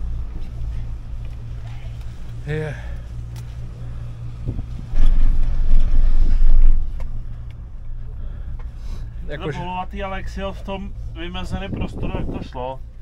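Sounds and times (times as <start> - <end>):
chairlift humming: 0.0 - 12.0
loud low rumble: 0.0 - 13.0.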